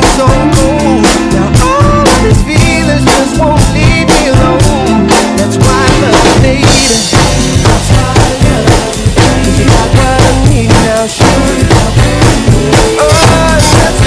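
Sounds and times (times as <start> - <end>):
drum kit beat: 0.0 - 14.0
recorded band music: 0.0 - 14.0.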